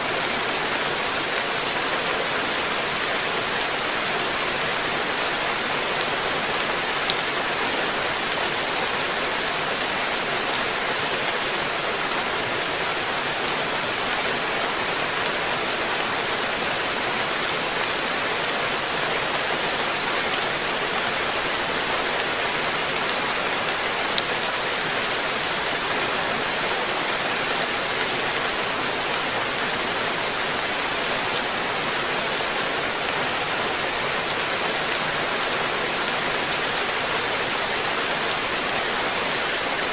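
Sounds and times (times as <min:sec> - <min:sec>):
rain falling on pond: 0:00.0 - 0:39.9.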